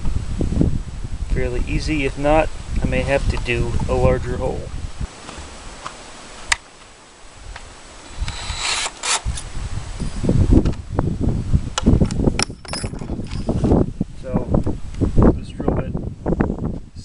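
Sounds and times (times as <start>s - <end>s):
wind buffeting microphone: 0.0s - 5.8s, 7.3s - 17.0s.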